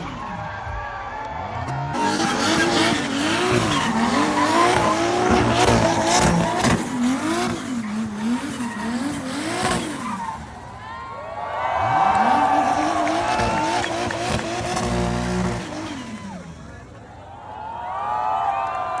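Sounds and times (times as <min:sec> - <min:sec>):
sports car engines revving: 0:00.0 - 0:17.7
car accelerating: 0:00.0 - 0:18.1.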